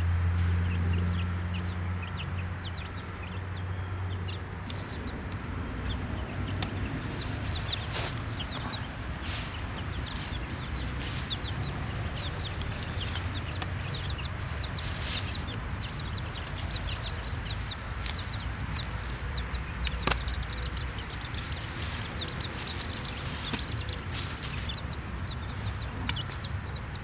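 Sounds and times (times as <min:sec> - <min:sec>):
baby chicks peeping: 0:00.0 - 0:27.0.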